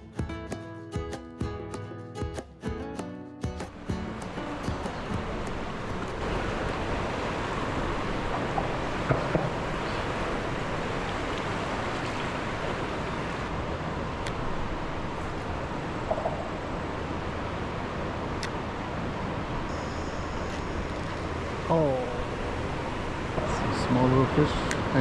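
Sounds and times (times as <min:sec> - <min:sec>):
river water rushing: 0:03.7 - 0:25.0.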